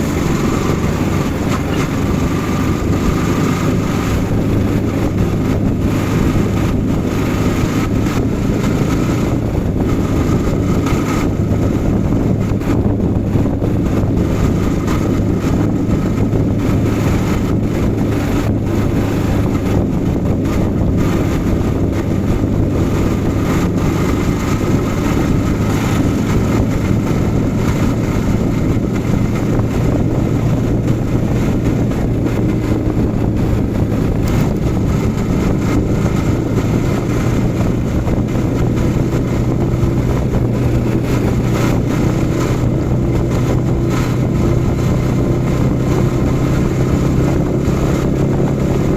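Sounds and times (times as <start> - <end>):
motorcycle engine cruising: 0.0 - 48.9
wind noise: 0.0 - 48.9.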